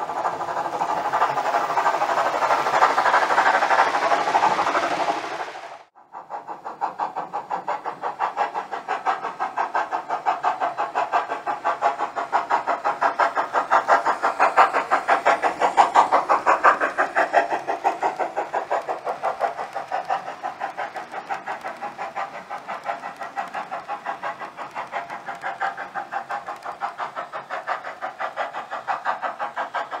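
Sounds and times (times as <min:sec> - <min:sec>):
steam locomotive exhaust chuffing: 0:00.0 - 0:30.0.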